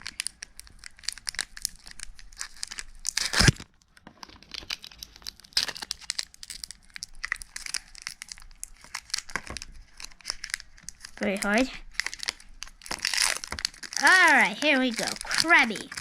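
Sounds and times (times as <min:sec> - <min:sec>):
foil wrapper crinkling and ripping: 0:00.0 - 0:16.0.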